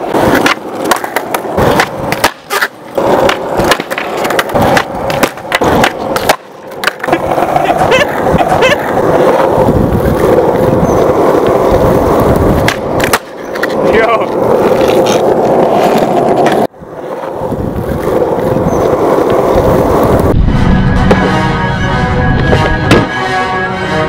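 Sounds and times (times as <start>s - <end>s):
skateboard clacks: 0.0s - 20.3s, 21.1s - 21.4s
skateboard wheels rolling on concrete: 0.0s - 23.1s.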